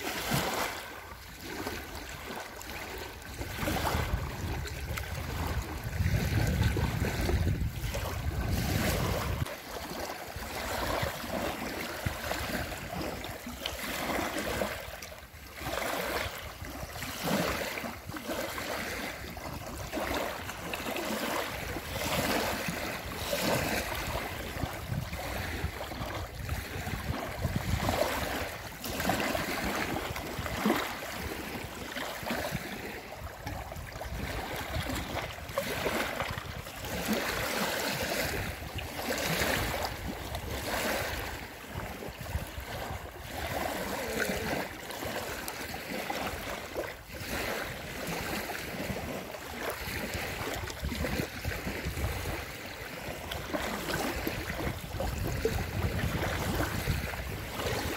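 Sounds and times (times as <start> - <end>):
waves lapping on a slipway: 0.0 - 57.9.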